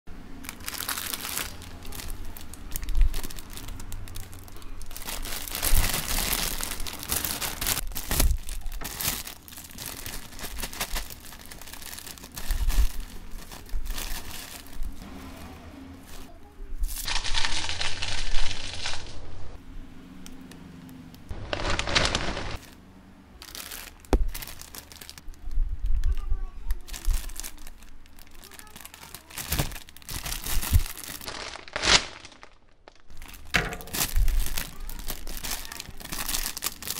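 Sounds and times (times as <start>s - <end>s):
plastic chip bags crinkling: 0.4s - 15.0s, 16.0s - 19.2s, 21.3s - 22.8s, 23.4s - 36.9s.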